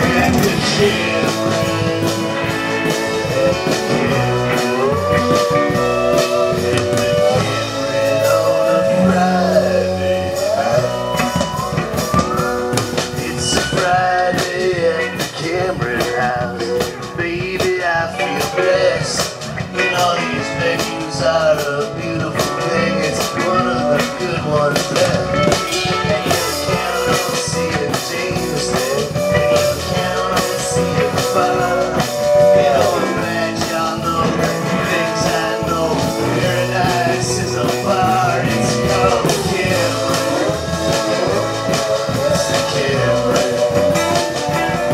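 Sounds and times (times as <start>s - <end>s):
bass: 0.0s - 44.9s
drum kit with cymbals: 0.0s - 44.9s.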